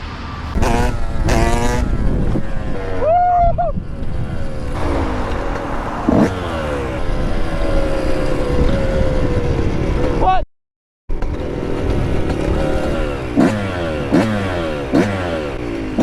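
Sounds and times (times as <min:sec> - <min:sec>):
road rumble: 0:00.0 - 0:10.4, 0:11.1 - 0:16.0
wind: 0:00.0 - 0:10.4, 0:11.1 - 0:16.0
motorcycle engines revving: 0:00.4 - 0:10.4, 0:11.1 - 0:16.0.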